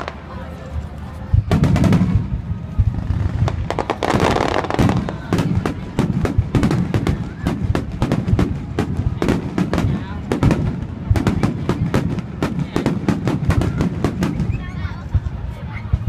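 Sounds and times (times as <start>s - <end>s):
fireworks bangs and crackling pops: 1.3s - 16.0s.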